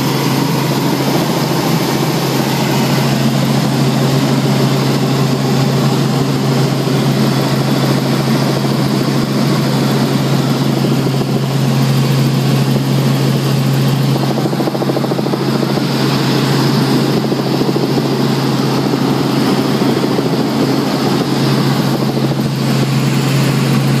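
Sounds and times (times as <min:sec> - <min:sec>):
helicopter engine and rotor hum: 0:00.0 - 0:24.0.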